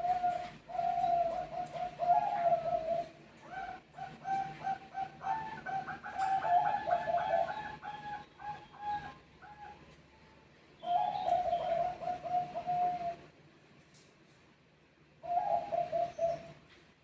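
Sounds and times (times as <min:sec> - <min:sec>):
dove cooing: 0:00.0 - 0:10.0, 0:10.8 - 0:13.4, 0:15.2 - 0:16.7.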